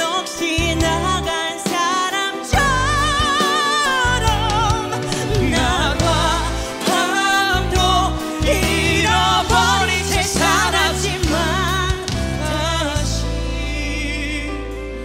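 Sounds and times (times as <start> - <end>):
pop ballad band accompaniment: 0.0 - 15.0
woman and man singing duet: 0.0 - 15.0.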